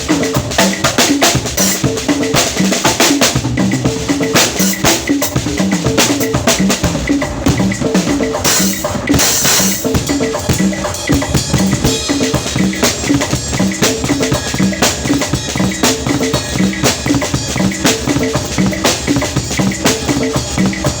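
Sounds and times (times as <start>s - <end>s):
drum kit playing beat: 0.0s - 21.0s.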